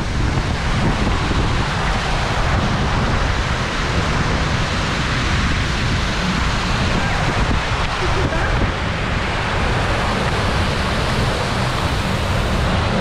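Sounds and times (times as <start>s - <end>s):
rushing water: 0.0s - 13.0s
wind buffeting microphone: 0.0s - 13.0s.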